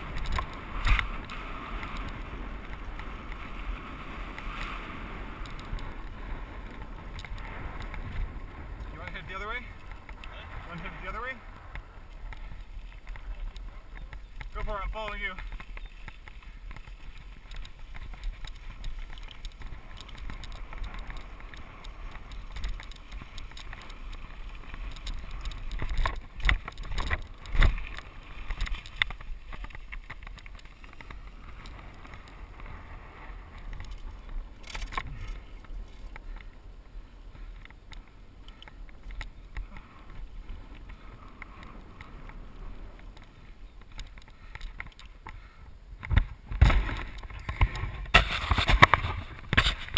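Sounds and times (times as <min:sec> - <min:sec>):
bike tyre noise and rattle: 0:00.0 - 0:49.9
wind on microphone: 0:00.0 - 0:49.9.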